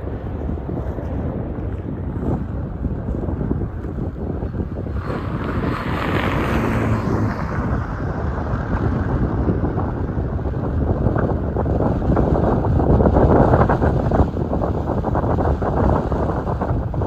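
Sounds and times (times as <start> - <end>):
low rumble: 0.0 - 17.0
strong wind buffeting microphone: 0.0 - 17.0.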